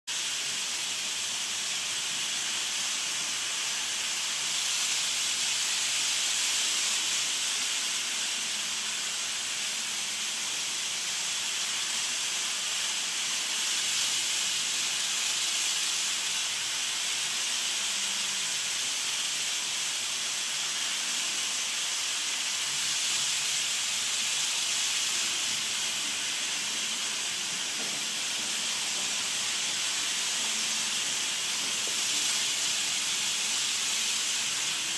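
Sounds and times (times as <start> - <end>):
model train rolling hiss: 0.1 - 34.9.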